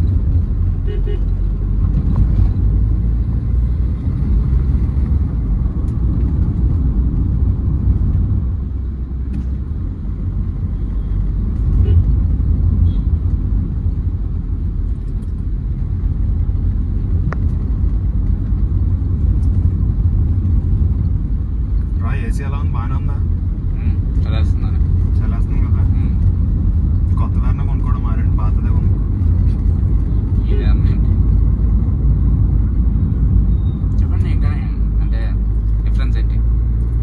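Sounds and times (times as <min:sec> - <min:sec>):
car engine and road noise: 0:00.0 - 0:37.0.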